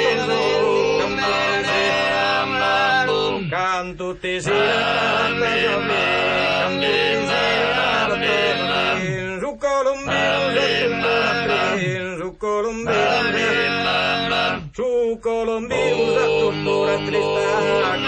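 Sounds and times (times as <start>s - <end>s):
men singing: 0.0s - 18.0s.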